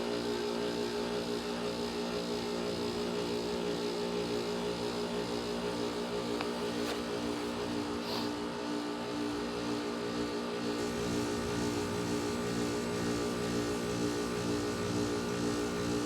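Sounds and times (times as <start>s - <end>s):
heat pump compressor humming: 0.0s - 16.0s.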